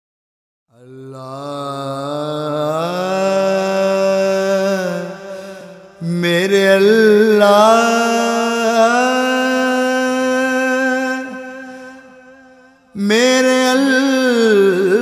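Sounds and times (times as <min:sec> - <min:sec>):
person singing wordless melody: 0:00.7 - 0:15.0.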